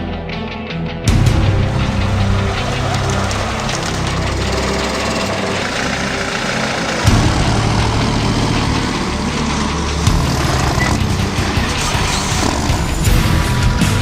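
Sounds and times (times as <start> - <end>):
heavy truck engine droning: 1.1 - 14.0.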